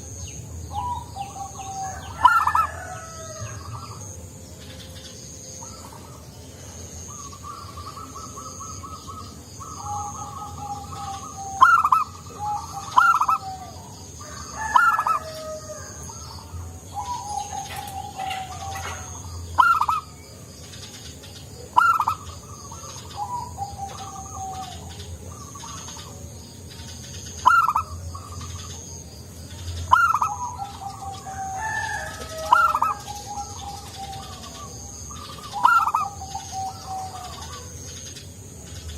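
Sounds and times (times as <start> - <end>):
dove cooing: 0.0 - 38.8.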